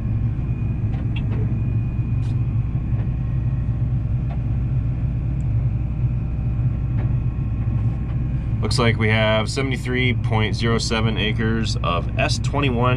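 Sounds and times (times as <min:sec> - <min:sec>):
combine engine drone in cab: 0:00.0 - 0:12.9
faint high whine: 0:00.0 - 0:12.9.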